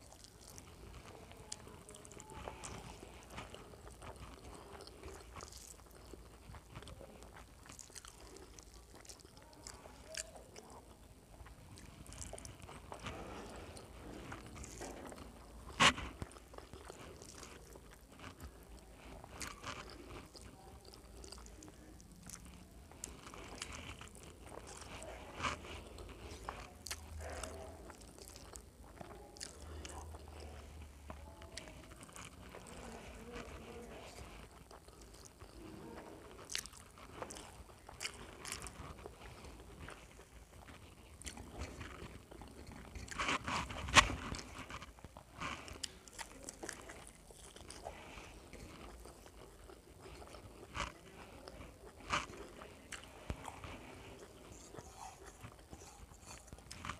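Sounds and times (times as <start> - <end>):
person chewing: 0.0 - 56.9.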